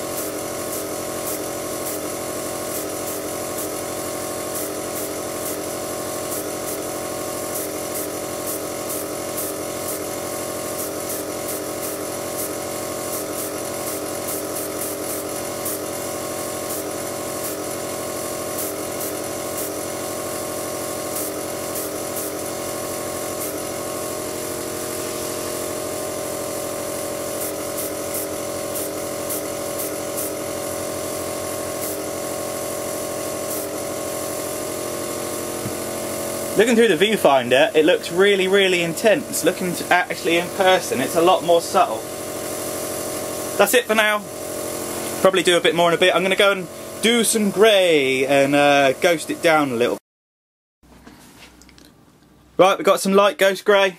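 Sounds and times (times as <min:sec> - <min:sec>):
airbrush spraying: 0:00.0 - 0:50.0
compressor motor hum: 0:00.0 - 0:50.0.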